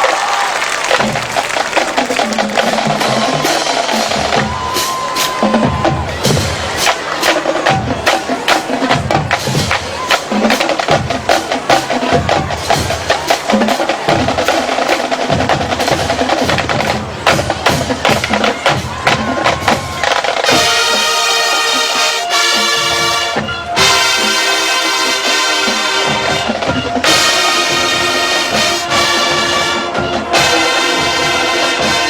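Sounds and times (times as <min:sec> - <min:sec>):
marching band drums: 0:00.0 - 0:32.0.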